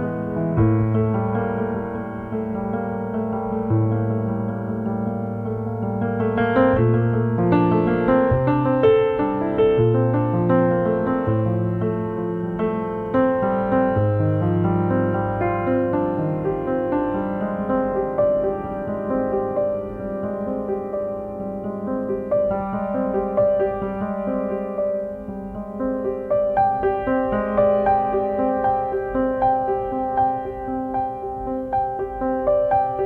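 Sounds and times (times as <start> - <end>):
slow solo piano piece: 0.0 - 33.0.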